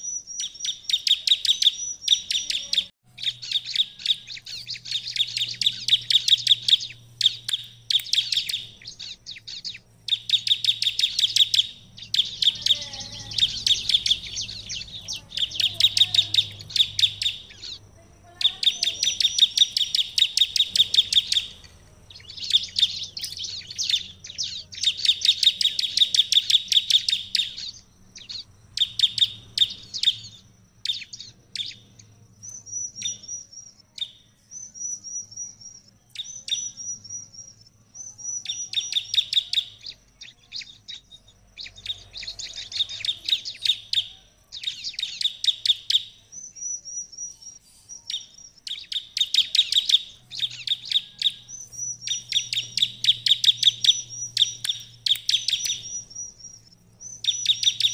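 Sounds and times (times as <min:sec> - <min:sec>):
bird fast sharp chirping: 0:00.0 - 0:57.9
high whistled bird notes: 0:00.0 - 0:57.9.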